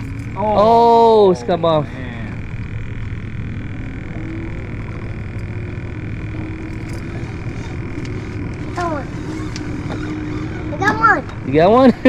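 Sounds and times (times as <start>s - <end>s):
faint high whine: 0.0s - 12.0s
low engine drone: 0.0s - 12.0s.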